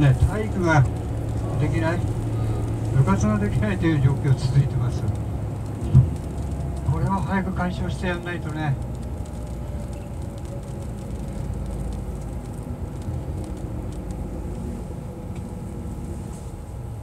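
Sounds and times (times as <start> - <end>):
bus engine: 0.0 - 17.0
road noise: 0.0 - 17.0.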